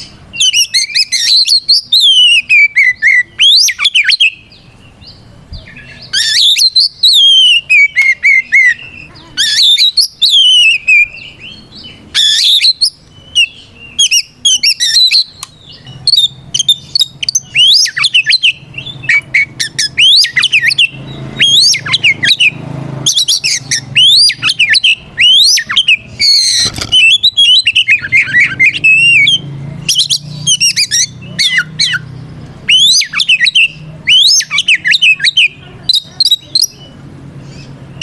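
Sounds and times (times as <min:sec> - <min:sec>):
bird singing whistled phrases and chirps: 0:00.0 - 0:38.0.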